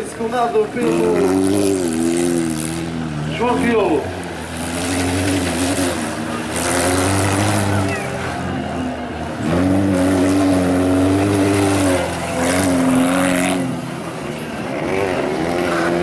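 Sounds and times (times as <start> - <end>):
car engine revving: 0.3 - 16.0.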